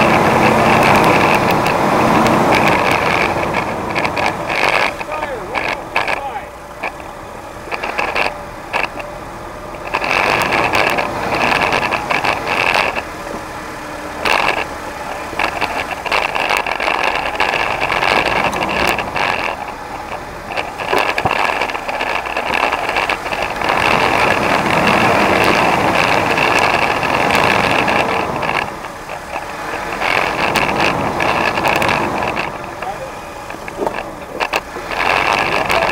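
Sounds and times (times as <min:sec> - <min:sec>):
knocks and rattles on rocks: 0:00.0 - 0:13.4, 0:14.1 - 0:35.9
engine running with high whine: 0:00.0 - 0:35.9.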